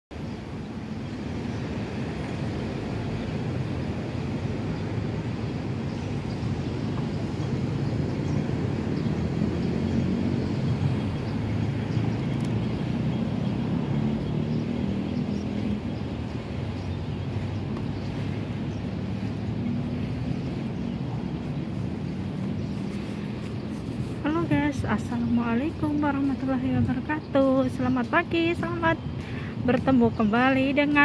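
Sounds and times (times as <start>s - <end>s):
distant traffic rumble: 0.1s - 31.0s.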